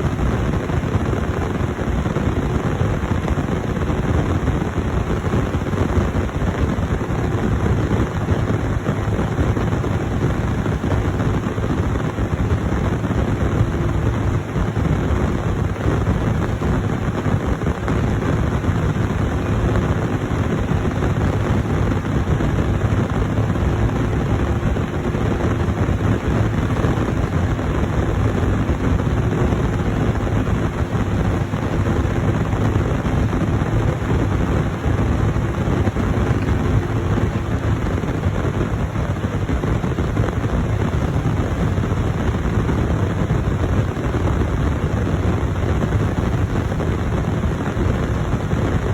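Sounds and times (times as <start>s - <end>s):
steady hum: 0.0s - 48.9s
harvest machinery droning: 7.4s - 46.8s.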